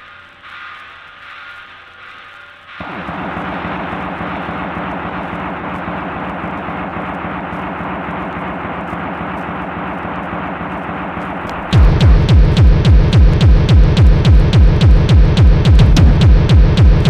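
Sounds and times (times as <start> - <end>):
techno noise drone: 0.0 - 17.0.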